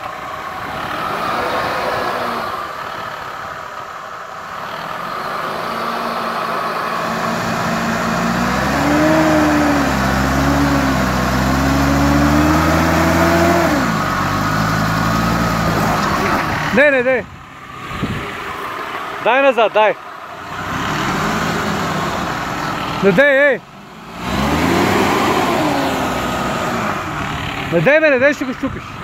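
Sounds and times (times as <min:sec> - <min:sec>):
truck engine pulling under load: 0:00.0 - 0:29.0.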